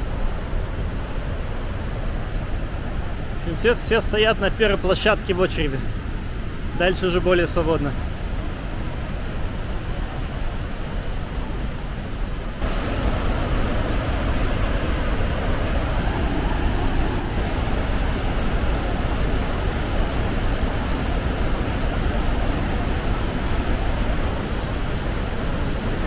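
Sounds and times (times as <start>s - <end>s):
waterfall roar: 0.0s - 26.0s.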